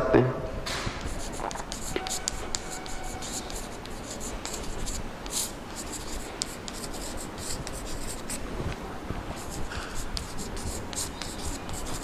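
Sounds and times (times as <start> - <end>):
chalk scratching on blackboard: 0.9 - 8.4, 9.3 - 12.0.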